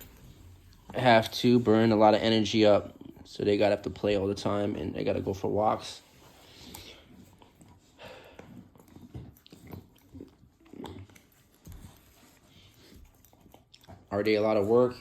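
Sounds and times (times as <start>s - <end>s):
dog gnawing on a bone: 0.0s - 15.0s.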